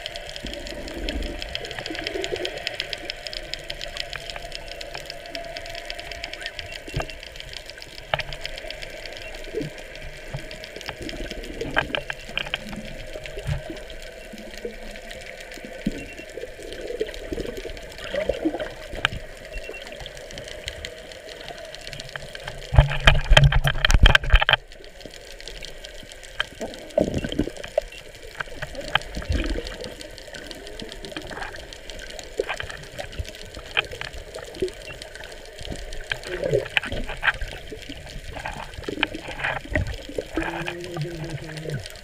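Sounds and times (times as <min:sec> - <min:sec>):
sharp clicks and pops: 0:00.0 - 0:42.0
underwater water movement: 0:00.0 - 0:42.0.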